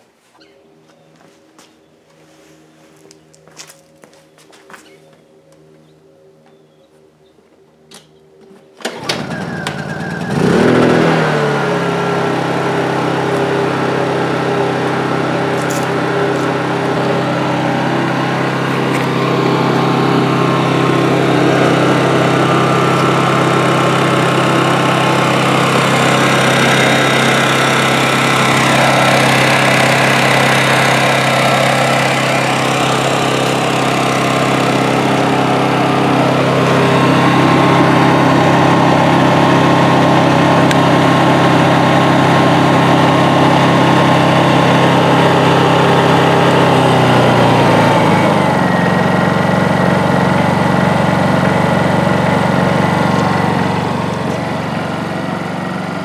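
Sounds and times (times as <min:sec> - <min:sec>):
generator engine running: 0:00.6 - 0:56.0.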